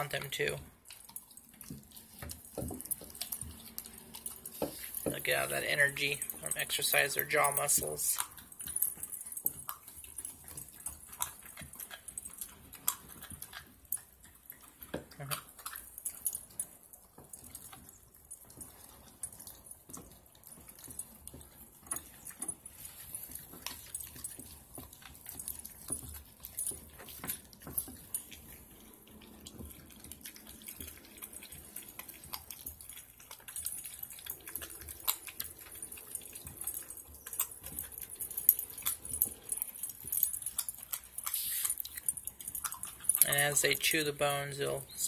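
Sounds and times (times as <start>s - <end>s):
puppies gnawing bones: 0.0s - 45.0s.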